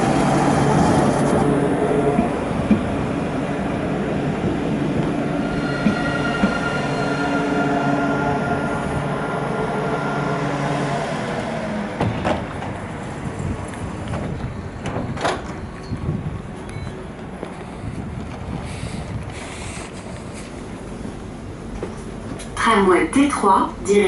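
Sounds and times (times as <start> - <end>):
tram electric drive whining: 0.0 - 24.0
tram rolling rumble: 0.0 - 24.0.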